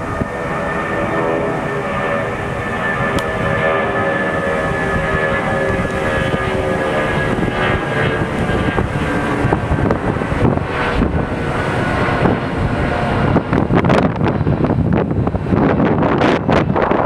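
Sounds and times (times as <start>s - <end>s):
jet engines rumbling overhead: 0.0s - 17.0s
wind buffeting microphone: 0.0s - 17.0s.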